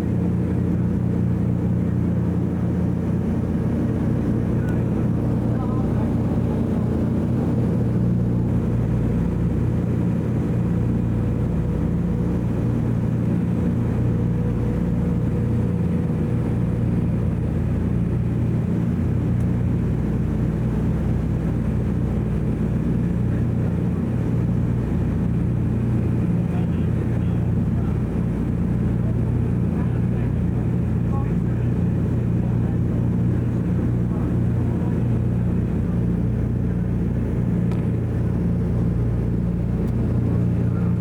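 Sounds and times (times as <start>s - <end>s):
propeller plane engines droning: 0.0s - 41.0s.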